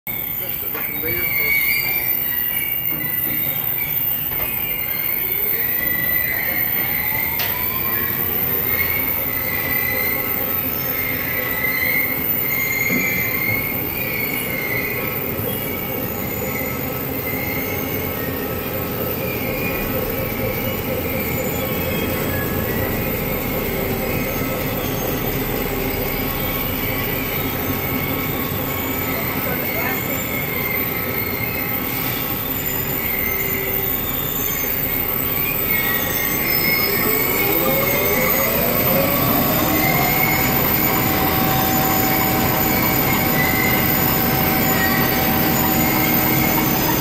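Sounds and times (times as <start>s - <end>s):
high wavering squeal: 0.1s - 47.0s
motor whine: 0.1s - 47.0s
sorting machine running: 0.1s - 47.0s.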